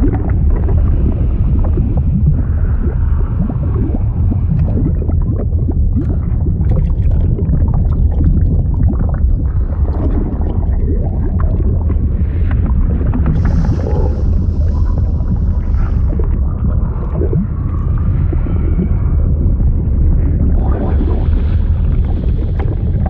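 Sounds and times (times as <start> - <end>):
deep steady rumble: 0.0 - 23.0
short rising bubble sounds: 0.0 - 23.0
water bubbling and gurgling: 0.0 - 23.0.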